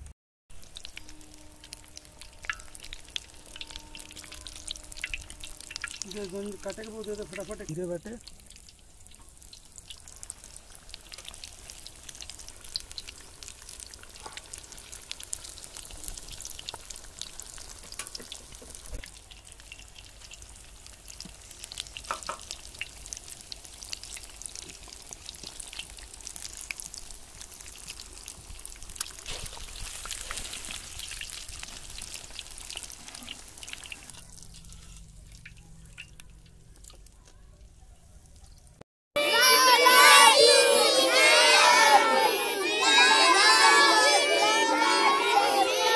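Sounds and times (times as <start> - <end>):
deep-frying sizzle with pops: 0.0 - 38.8.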